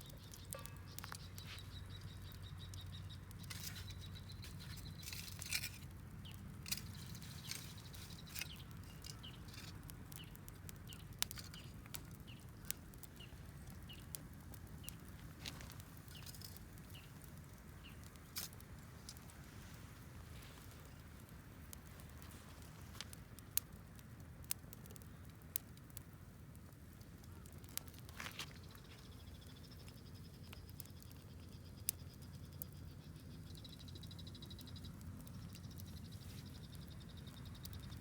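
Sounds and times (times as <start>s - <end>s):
burning wood popping: 0.0s - 38.0s
campfire crackling: 0.0s - 38.0s.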